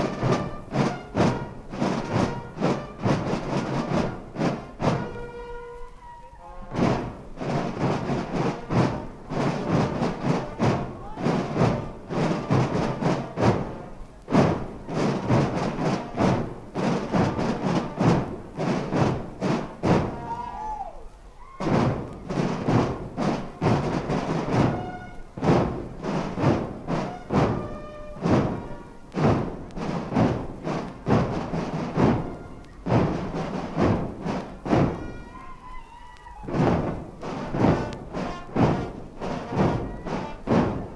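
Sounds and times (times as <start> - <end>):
brass horns playing: 0.0 - 20.6, 21.5 - 40.9
drums beating: 0.0 - 40.9.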